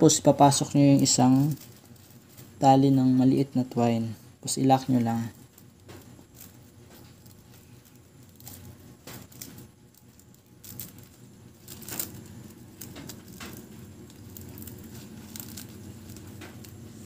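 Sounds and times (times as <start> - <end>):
low steady hum: 0.0 - 17.0
twine rustling: 0.0 - 17.0.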